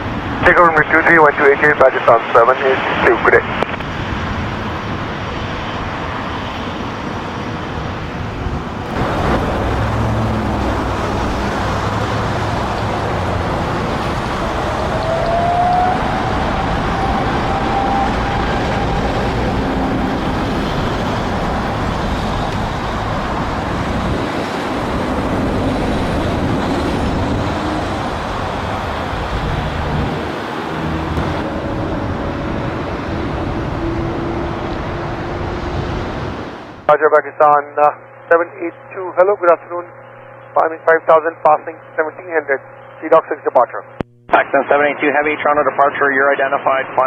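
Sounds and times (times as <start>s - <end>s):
jet engines at takeoff thrust: 0.0s - 47.0s.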